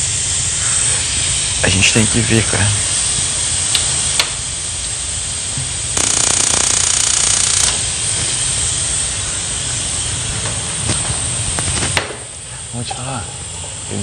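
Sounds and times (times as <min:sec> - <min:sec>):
steam hissing from a pot: 0:00.0 - 0:06.0, 0:06.8 - 0:14.0
fast-rattling hiss: 0:00.0 - 0:14.0.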